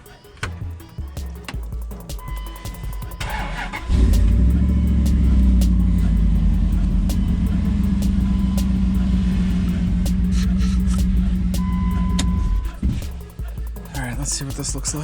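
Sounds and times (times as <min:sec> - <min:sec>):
car engine idling: 0:00.0 - 0:15.0
starter cranking engine: 0:02.5 - 0:15.0.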